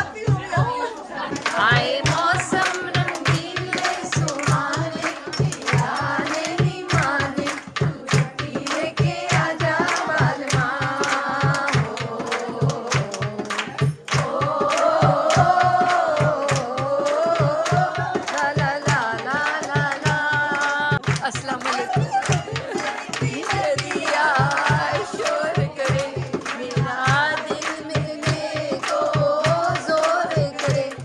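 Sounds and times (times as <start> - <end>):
hand drum steady beat: 0.0 - 31.0
voices singing: 0.0 - 31.0.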